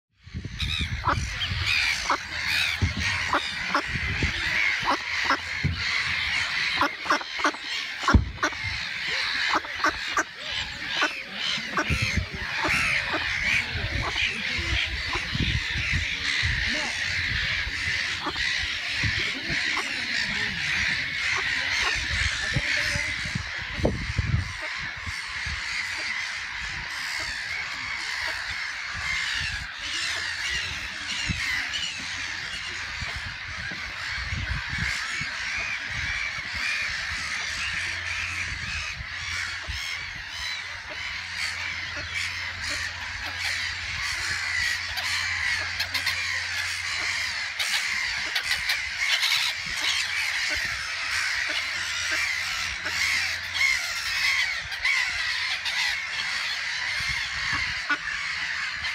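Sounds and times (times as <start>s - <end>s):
ducklings peeping: 0.4s - 58.9s.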